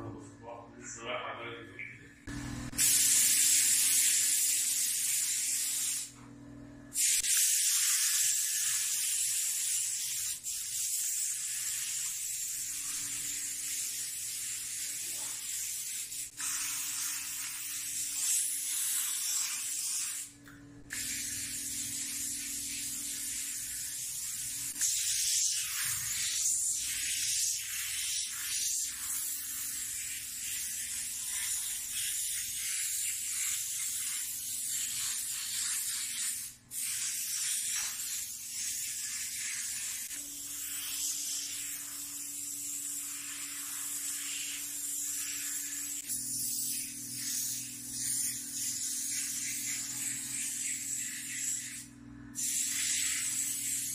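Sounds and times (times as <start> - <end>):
paint spray gun hissing: 2.7 - 6.2, 6.9 - 53.9.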